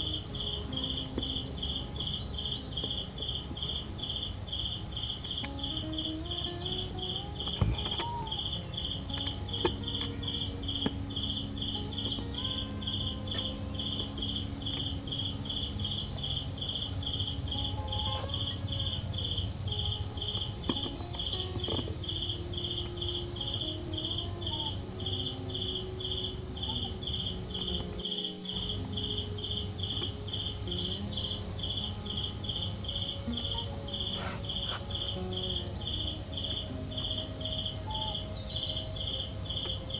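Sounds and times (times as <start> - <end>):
continuous high buzz: 0.0 - 39.9
insects chirping: 0.0 - 39.9.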